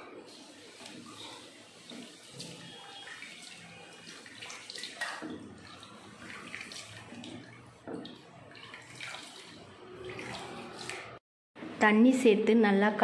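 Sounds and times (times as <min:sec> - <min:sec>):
water splashes: 0:00.0 - 0:11.2.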